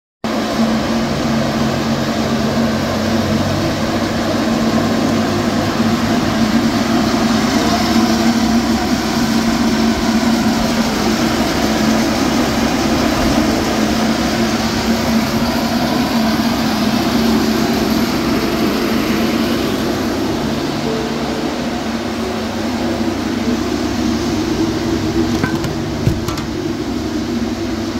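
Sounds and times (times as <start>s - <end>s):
constant fan hum: 0.3s - 27.9s
ventilation fans rushing air: 0.3s - 27.9s.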